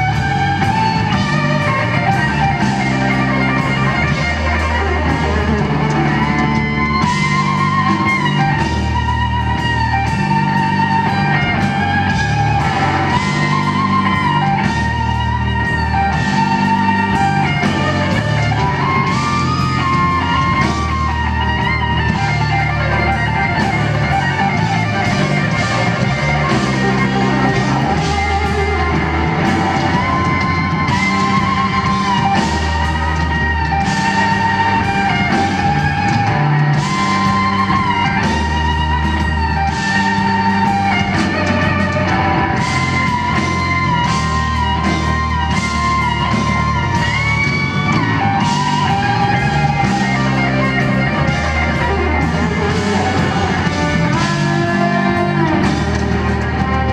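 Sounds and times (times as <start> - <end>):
band with held bass notes: 0.0 - 56.9
electric guitar lead solo: 0.0 - 56.9.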